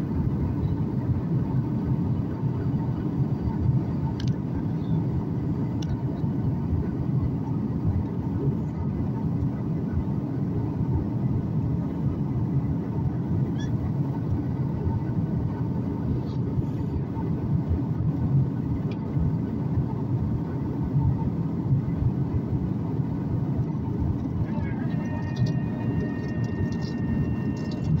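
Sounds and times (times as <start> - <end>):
airplane cabin engine rush: 0.0 - 28.0
faint steady hum: 0.0 - 28.0.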